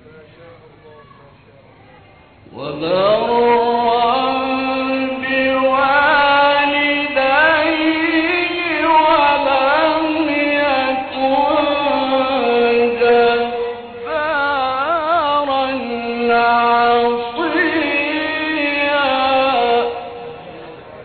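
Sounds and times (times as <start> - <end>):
man chanting melodic recitation: 2.5 - 21.0.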